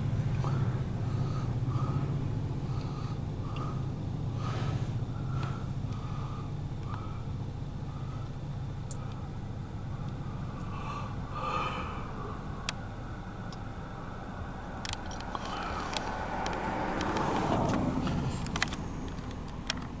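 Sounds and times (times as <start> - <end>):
vehicle passing: 0.0 - 7.3, 9.2 - 19.7
low rumble inside car: 0.0 - 20.0.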